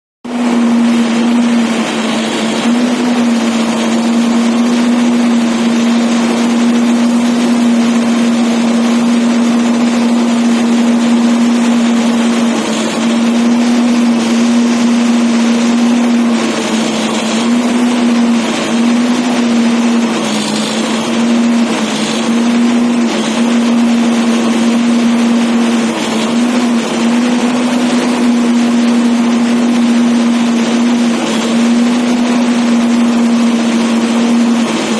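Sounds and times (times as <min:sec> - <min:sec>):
diesel engine droning: 0:00.3 - 0:34.9.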